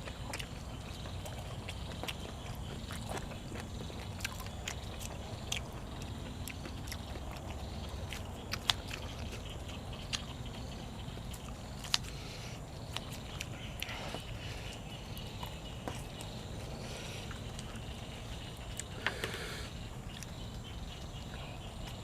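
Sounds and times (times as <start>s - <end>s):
low background rumble: 0.0s - 22.0s
person chewing crunchy food: 0.0s - 22.0s.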